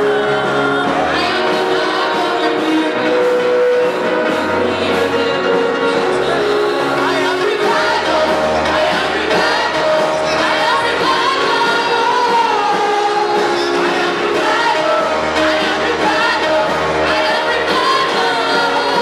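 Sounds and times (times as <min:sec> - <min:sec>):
gospel singing with accompaniment: 0:00.0 - 0:19.0.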